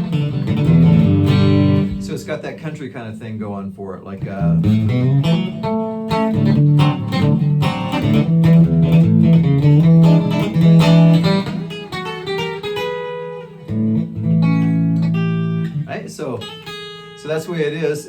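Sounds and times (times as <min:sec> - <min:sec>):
electric guitar country picking: 0:00.0 - 0:18.0.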